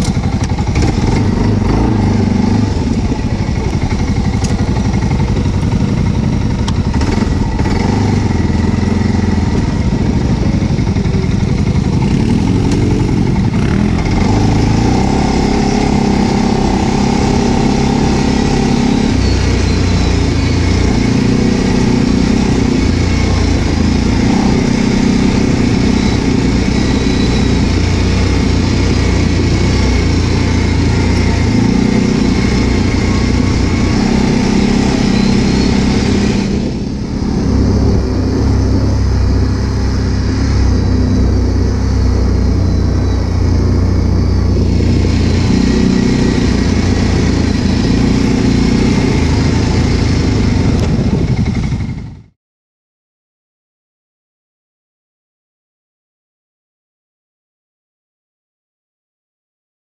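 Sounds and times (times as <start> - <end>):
atv engine running: 0.0 - 52.4.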